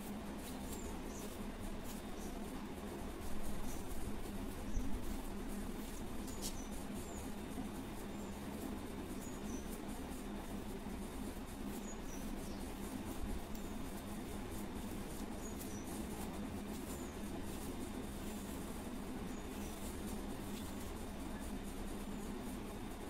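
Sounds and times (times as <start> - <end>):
background hiss: 0.0 - 23.0
steady low hum: 0.0 - 23.0.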